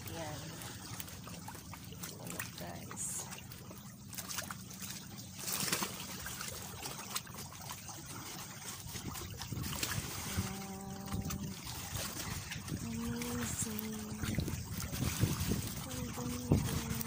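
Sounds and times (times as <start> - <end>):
wash of water: 0.0 - 17.0
water lapping among rocks: 0.0 - 17.0.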